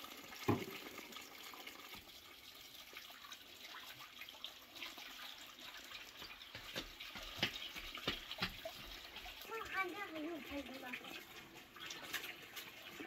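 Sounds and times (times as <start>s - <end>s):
thin stream of water running: 0.0s - 13.0s.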